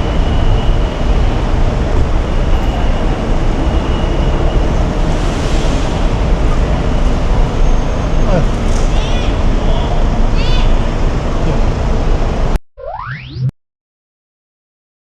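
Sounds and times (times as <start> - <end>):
vehicle and road rumble: 0.0 - 12.6.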